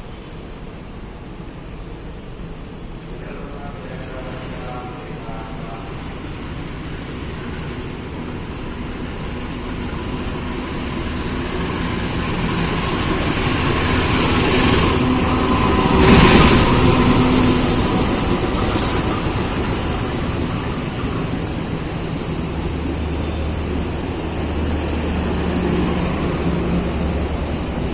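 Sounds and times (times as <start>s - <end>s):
train passing hum and rumble: 0.0s - 27.9s.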